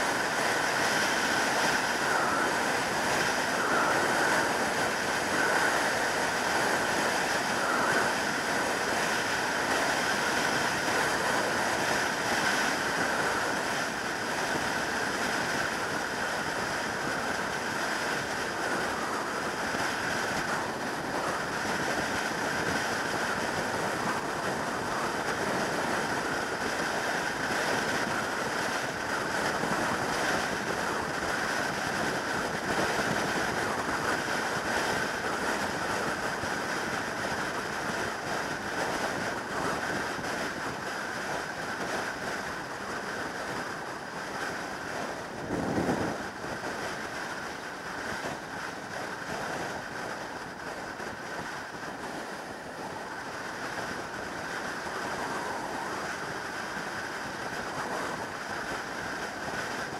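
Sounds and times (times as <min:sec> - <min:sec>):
road noise: 0:00.0 - 0:59.9
wind rushing over microphone: 0:00.0 - 0:59.9.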